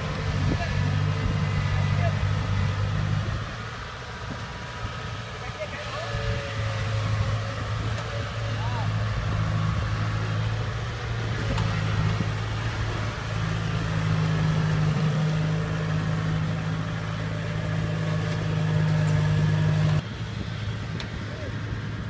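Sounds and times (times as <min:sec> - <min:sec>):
diesel engine running steadily: 0:00.0 - 0:22.0.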